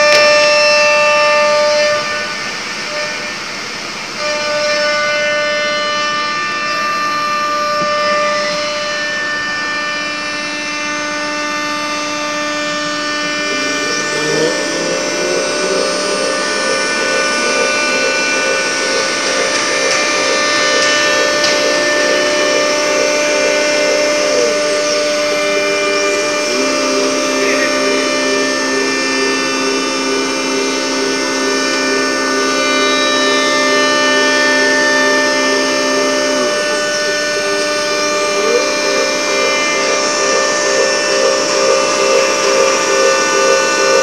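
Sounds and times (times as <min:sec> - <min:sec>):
wavering tone: 0:00.0 - 0:44.0
wood router spindle whine: 0:00.0 - 0:44.0
axis motors tones: 0:04.4 - 0:44.0.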